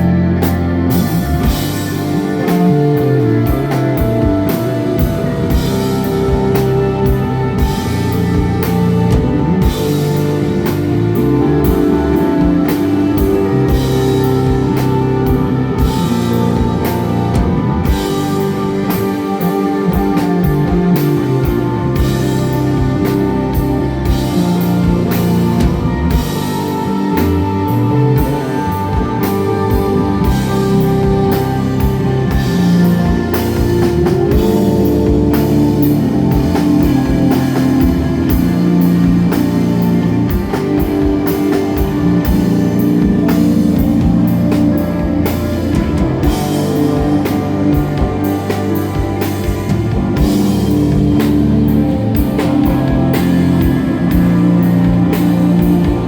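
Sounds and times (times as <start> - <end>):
bass guitar: 0.0 - 56.0
drum kit beat: 0.0 - 56.0
electric guitar notes: 0.0 - 56.0.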